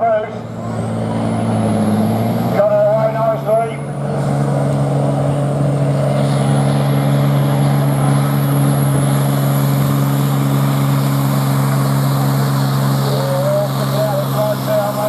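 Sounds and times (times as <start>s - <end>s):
diesel tractor engine under load: 0.0s - 15.0s.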